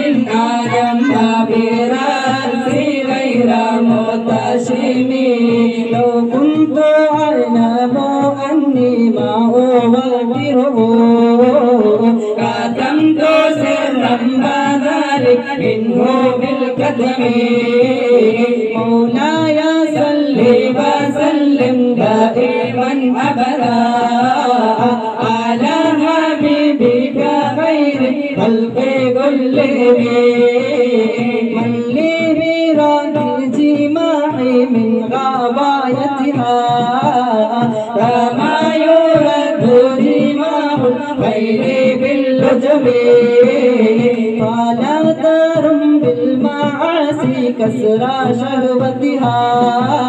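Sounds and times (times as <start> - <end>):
boys singing in unison: 0.0 - 50.0.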